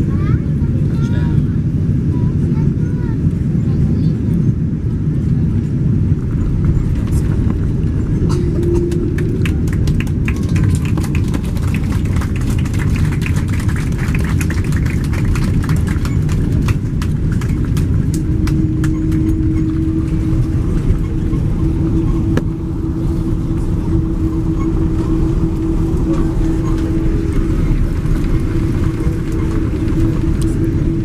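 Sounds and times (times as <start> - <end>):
airliner rumbling on ground: 0.0 - 31.0
steady hum: 0.0 - 31.0.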